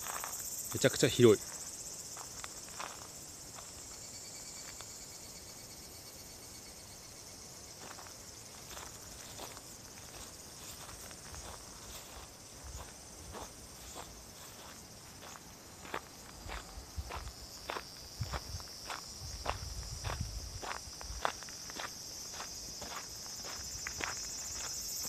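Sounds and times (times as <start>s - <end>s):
footsteps on gravel and grass: 0.0s - 5.0s, 7.7s - 25.0s
insects chirring: 0.0s - 25.0s.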